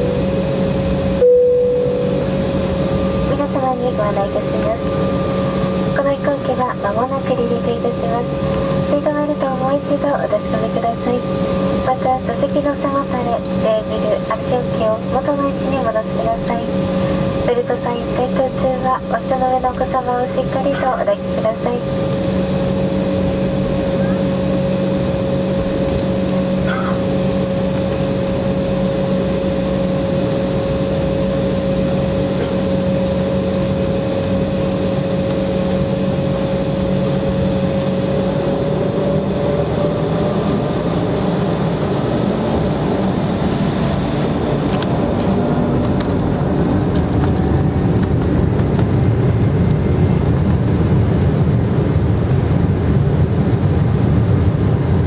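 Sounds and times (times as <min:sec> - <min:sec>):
low rumble: 0:00.0 - 0:20.4, 0:21.1 - 0:55.0
jet engines humming: 0:00.0 - 0:55.0
jet engines whining: 0:00.0 - 0:55.0.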